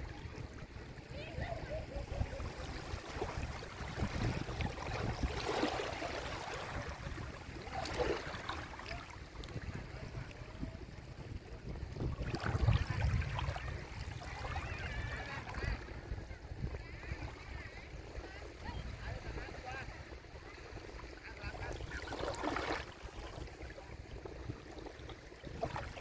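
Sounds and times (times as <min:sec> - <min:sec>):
waves washing on shore: 0:00.0 - 0:26.0.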